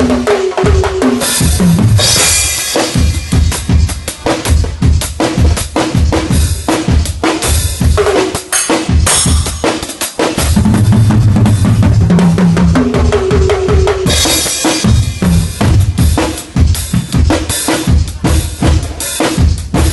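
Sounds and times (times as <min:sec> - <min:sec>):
drum kit played fast: 0:00.0 - 0:19.9.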